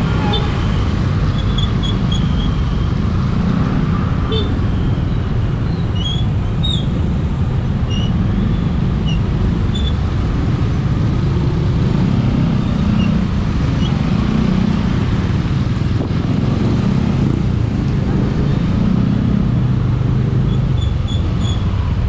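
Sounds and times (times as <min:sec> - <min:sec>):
road traffic: 0:00.0 - 0:22.0.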